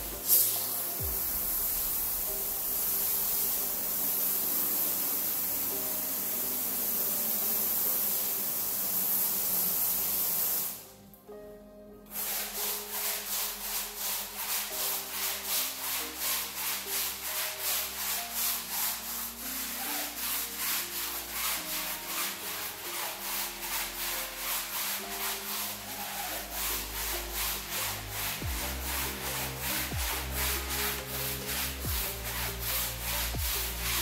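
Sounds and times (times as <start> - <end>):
push broom scrubbing wet rug: 0.0 - 10.6, 12.1 - 34.0.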